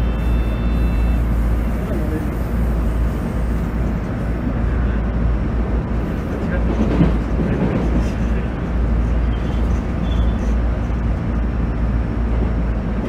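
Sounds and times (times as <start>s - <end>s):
train engine and wheels rumbling: 0.0s - 13.0s.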